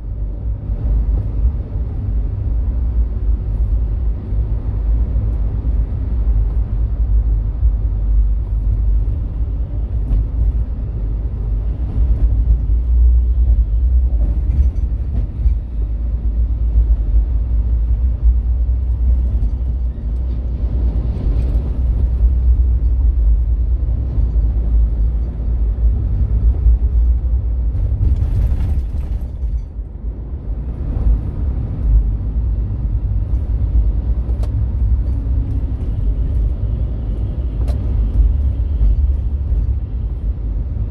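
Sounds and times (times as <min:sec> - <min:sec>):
car driving on highway: 0:00.0 - 0:40.9.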